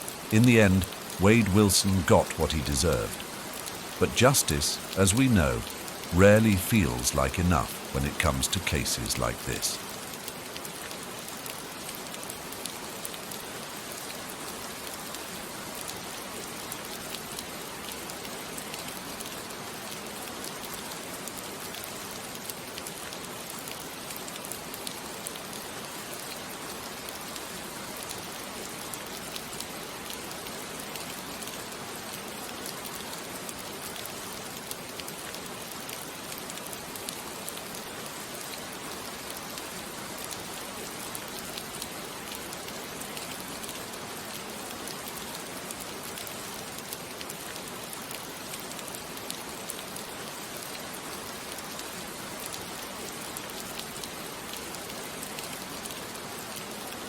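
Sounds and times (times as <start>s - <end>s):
steady rain falling: 0.0s - 57.0s
raindrop ticks: 0.2s - 57.0s.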